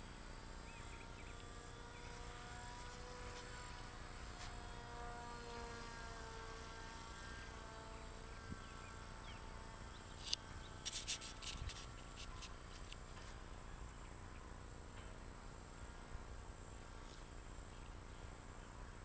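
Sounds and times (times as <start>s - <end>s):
buzzing electric propeller hum: 0.0s - 19.0s.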